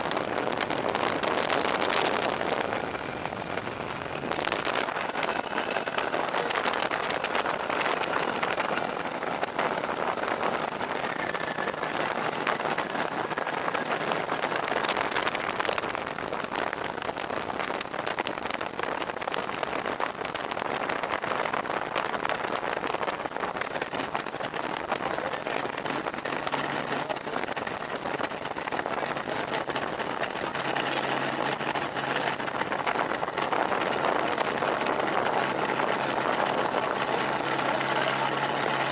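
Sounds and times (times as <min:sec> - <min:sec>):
light aircraft engine running: 0:00.0 - 0:19.3, 0:20.6 - 0:38.9
wind rushing over microphone: 0:00.0 - 0:38.9.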